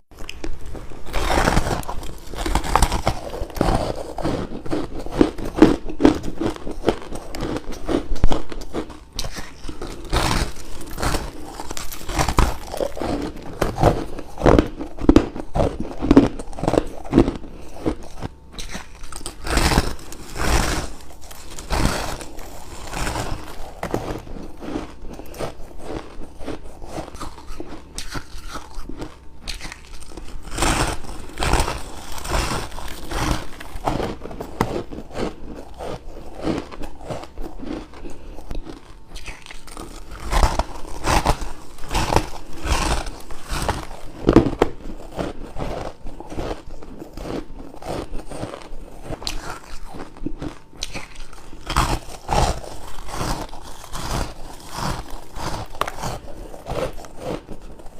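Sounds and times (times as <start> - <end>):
ice being crunched: 0.2 - 17.3, 18.0 - 24.8, 27.2 - 38.0, 38.6 - 57.6.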